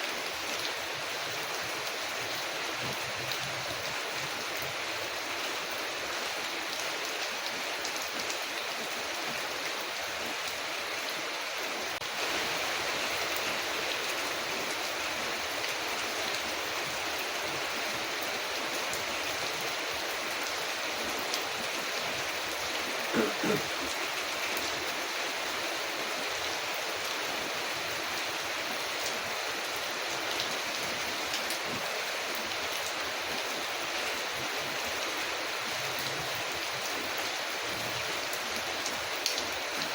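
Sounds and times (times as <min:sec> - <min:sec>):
rain on a window: 0:00.1 - 0:39.9.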